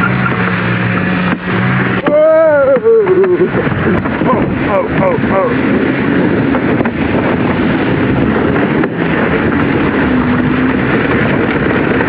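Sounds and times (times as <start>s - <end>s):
kayak hull sliding over snow: 0.0s - 12.0s
wind buffeting microphone: 0.0s - 12.0s.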